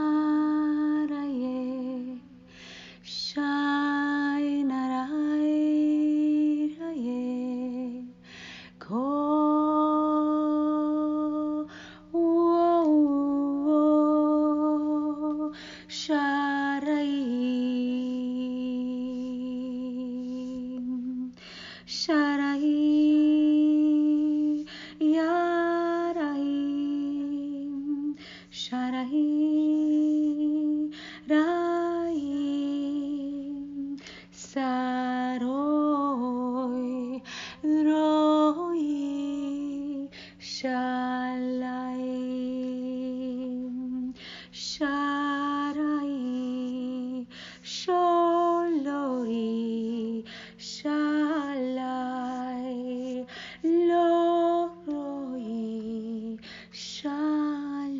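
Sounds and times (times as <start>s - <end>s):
woman singing wordless syllables: 0.0s - 2.4s, 3.0s - 8.2s, 8.8s - 57.9s.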